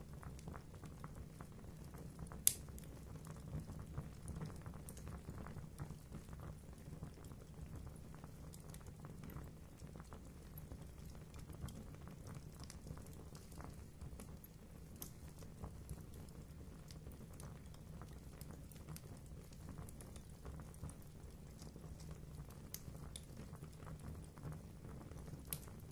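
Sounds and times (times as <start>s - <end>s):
fire crackling and popping: 0.0s - 25.9s.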